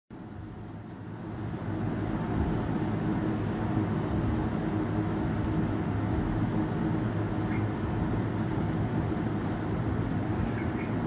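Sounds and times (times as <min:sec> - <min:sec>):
air cooler fan humming: 0:00.1 - 0:11.0.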